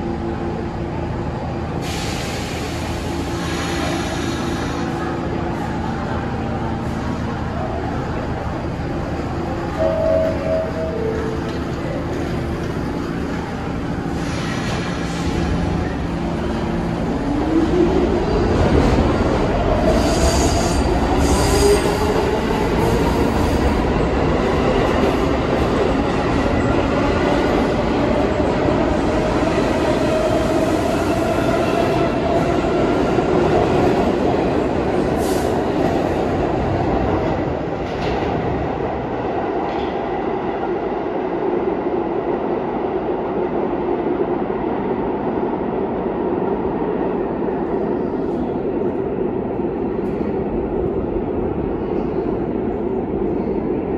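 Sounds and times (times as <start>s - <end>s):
subway train motors whining: 0.0s - 53.9s.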